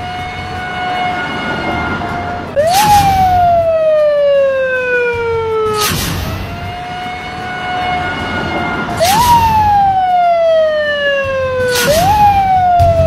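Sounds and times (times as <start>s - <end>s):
police siren: 0.0s - 13.0s.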